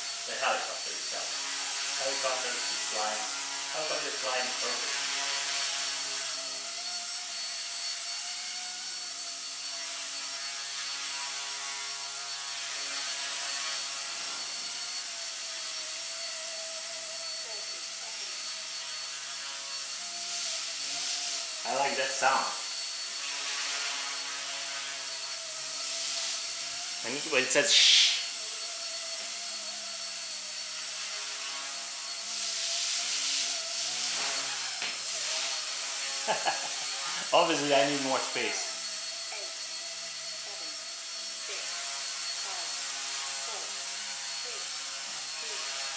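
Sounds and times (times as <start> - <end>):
rc helicopter rotor whine: 0.0 - 45.9.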